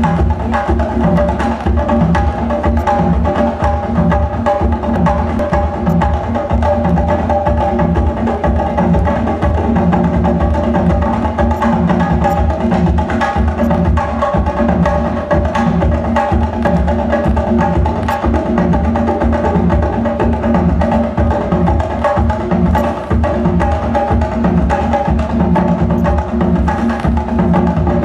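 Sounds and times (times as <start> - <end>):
percussive clicks and drum hits: 0.0 - 14.0, 14.8 - 19.9, 21.7 - 23.8, 24.7 - 27.8.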